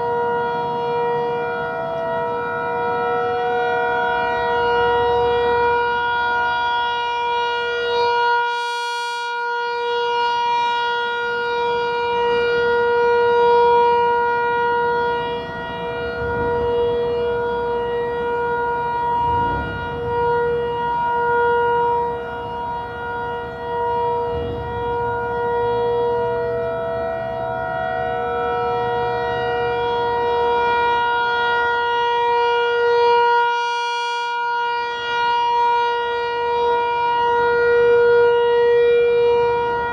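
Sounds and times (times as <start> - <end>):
rotating dual-tone siren: 0.0 - 39.9.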